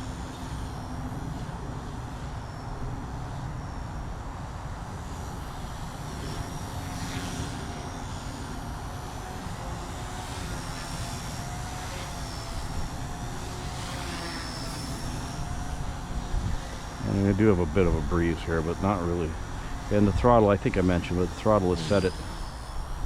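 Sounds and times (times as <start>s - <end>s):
helicopter motor and rotor whine: 0.0s - 23.0s.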